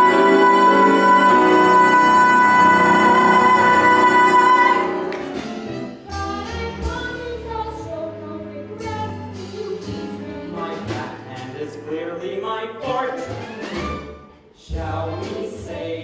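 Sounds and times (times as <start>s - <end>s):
instrumental stage music with bass: 0.0s - 16.0s
piano: 0.0s - 16.0s.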